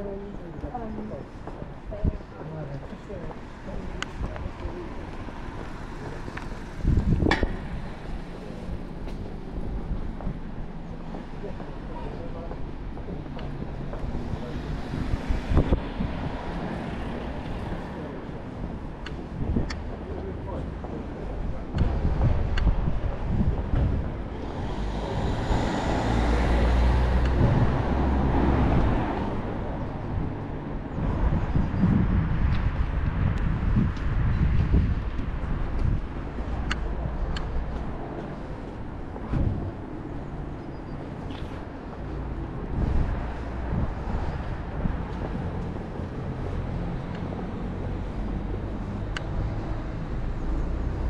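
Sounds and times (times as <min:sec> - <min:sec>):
street traffic noise: 0:00.0 - 0:51.0.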